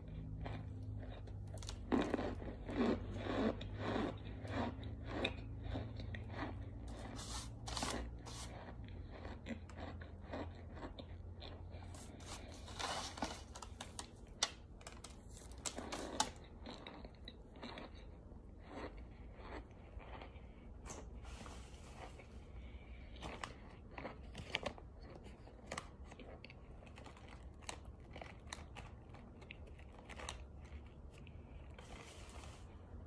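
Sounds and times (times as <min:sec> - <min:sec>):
person chewing crunchy food: 0:00.0 - 0:33.0.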